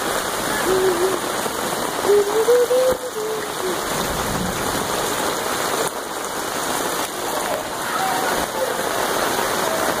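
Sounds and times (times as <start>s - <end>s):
heavy rain on hard surfaces: 0.0s - 10.0s.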